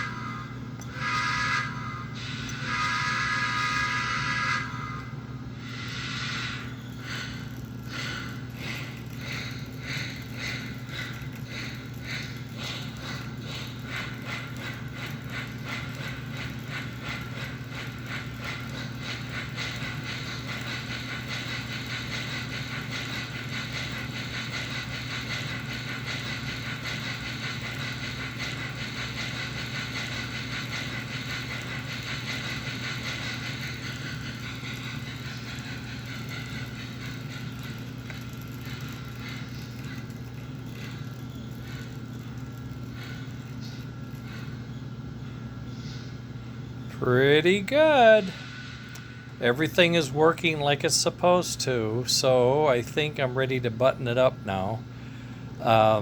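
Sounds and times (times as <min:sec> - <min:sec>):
model train chuffing: 0:00.0 - 0:56.0.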